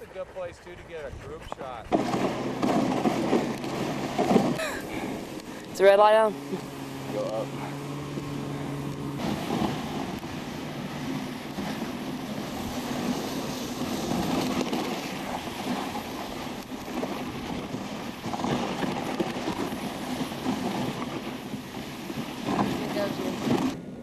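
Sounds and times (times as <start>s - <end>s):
sled runners scraping on snow: 0.0s - 23.9s.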